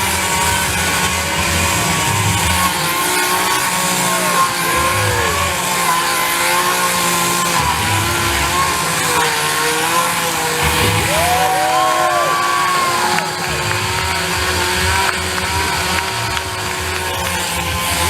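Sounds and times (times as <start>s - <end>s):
chainsaw engine running: 0.0s - 18.0s.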